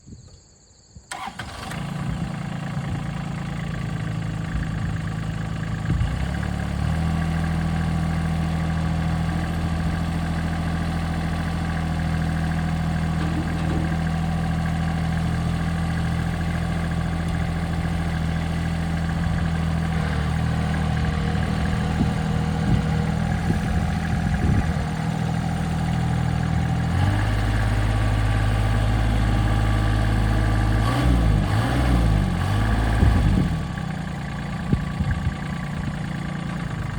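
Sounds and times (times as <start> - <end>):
tractor diesel engine running: 1.1 - 36.9.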